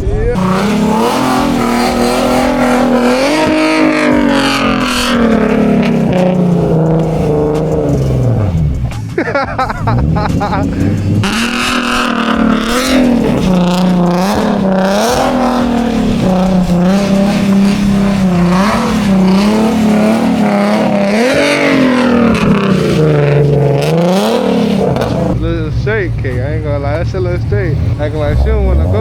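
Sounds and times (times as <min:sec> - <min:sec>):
car engine revving hard: 0:00.3 - 0:29.0.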